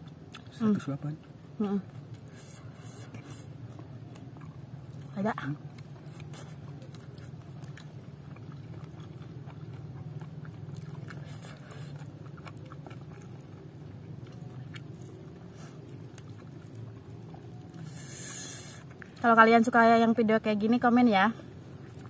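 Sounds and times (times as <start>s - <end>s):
person chewing food: 0.0s - 0.5s, 1.2s - 19.3s, 21.5s - 22.0s
steady low hum: 0.0s - 22.0s.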